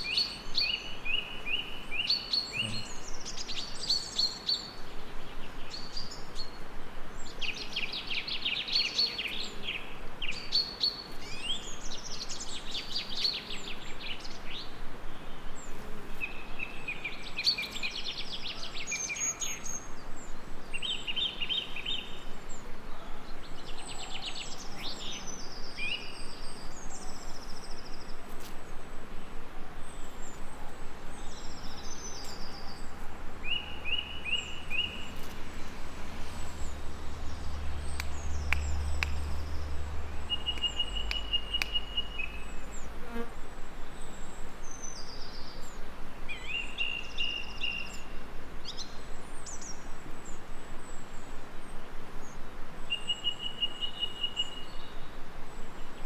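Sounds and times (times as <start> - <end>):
songbirds trilling and chirping: 0.0 - 56.0
steady background hiss: 0.0 - 56.0.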